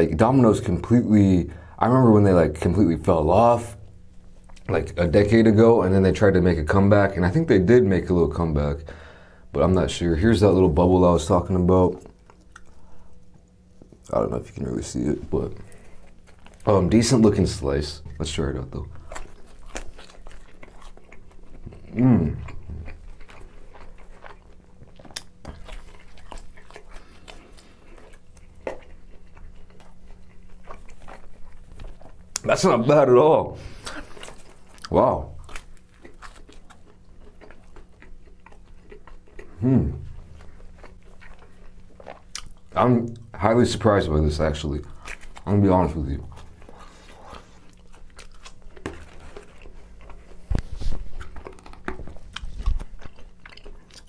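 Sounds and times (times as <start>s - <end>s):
chewing with wet smacks: 1.9s - 7.4s, 10.4s - 33.0s, 33.7s - 54.0s.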